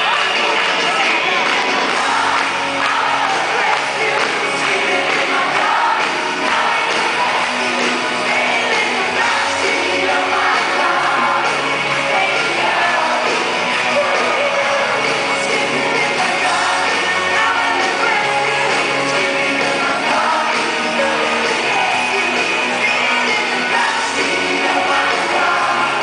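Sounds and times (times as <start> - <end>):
crowd shouting: 0.0 - 26.0
live rock band playing: 0.0 - 26.0
person singing: 0.0 - 26.0.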